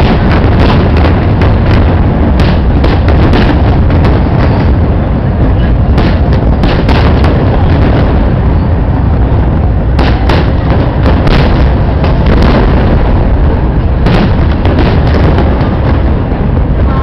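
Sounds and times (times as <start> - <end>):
fireworks booming: 0.0 - 17.0
fireworks sharp cracks: 0.0 - 17.0.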